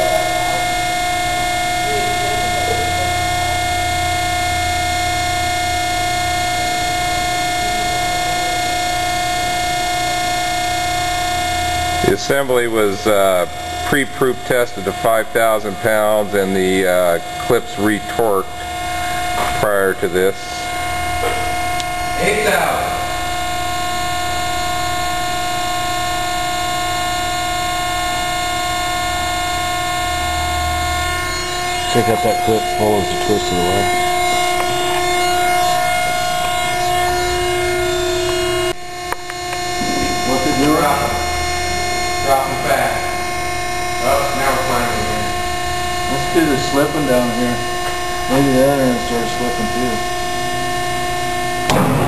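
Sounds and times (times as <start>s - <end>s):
hydraulic power unit whine: 0.0s - 52.0s
low hum: 0.0s - 52.0s.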